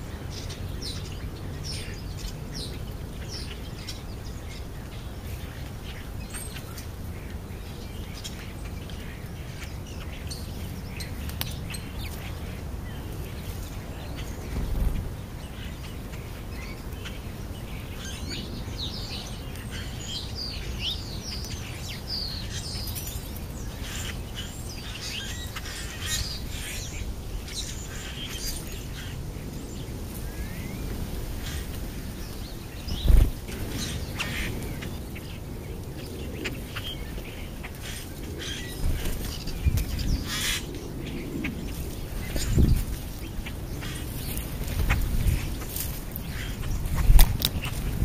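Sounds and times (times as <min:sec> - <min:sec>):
birds wingbeats and rustling: 0:00.0 - 0:48.0
songbirds chirping: 0:00.0 - 0:48.0.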